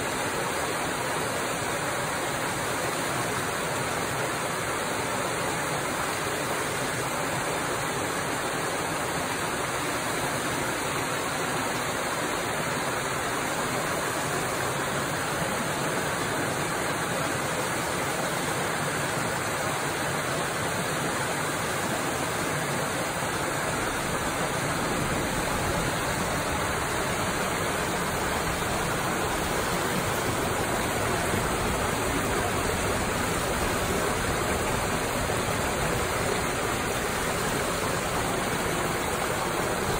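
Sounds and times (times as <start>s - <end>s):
water rushing down rocky cascade: 0.0s - 39.9s.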